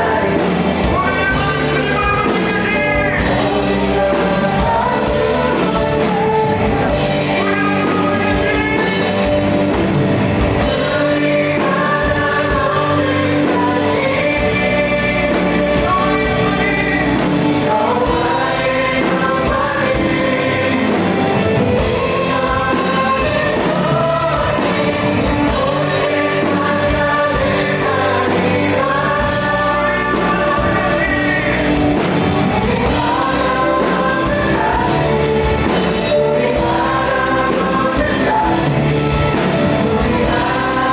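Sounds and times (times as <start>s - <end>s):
bass guitar: 0.0s - 40.9s
drums: 0.0s - 40.9s
electric guitars: 0.0s - 40.9s
keyboard: 0.0s - 40.9s
singers in harmony: 0.0s - 40.9s.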